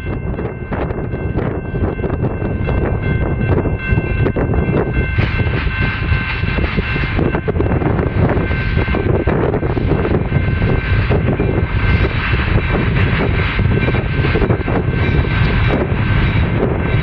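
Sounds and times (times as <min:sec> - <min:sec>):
distant diesel locomotive rumble: 0:00.0 - 0:17.0
steady high-pitched tone: 0:00.0 - 0:17.0
wind buffeting microphone: 0:00.0 - 0:17.0.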